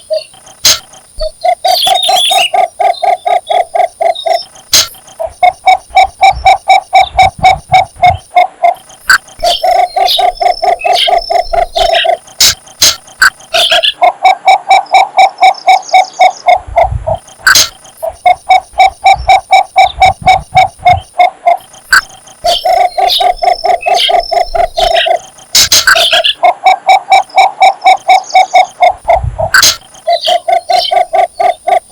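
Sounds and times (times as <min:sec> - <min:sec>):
bird low croaking calls: 0:00.0 - 0:31.9.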